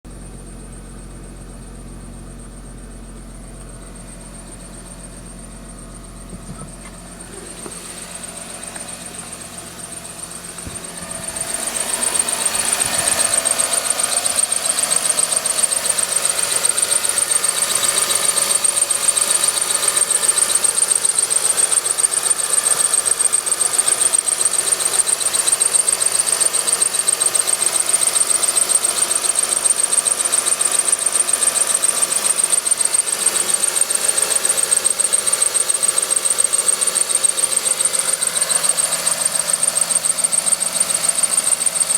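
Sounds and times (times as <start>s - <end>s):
car engine idling: 0.0s - 41.9s
high-pitched engine whistle: 2.5s - 41.9s.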